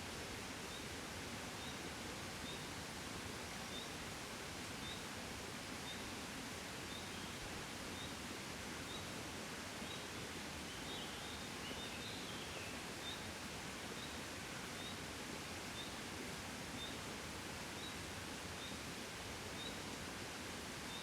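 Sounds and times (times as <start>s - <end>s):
wind from a gentle breeze: 0.0s - 21.0s.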